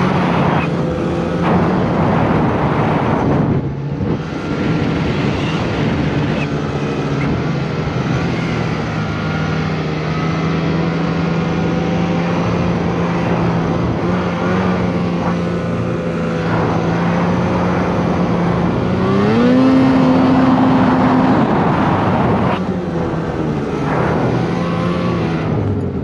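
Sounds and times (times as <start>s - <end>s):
snowmobile engine pulling hard: 0.0s - 26.0s.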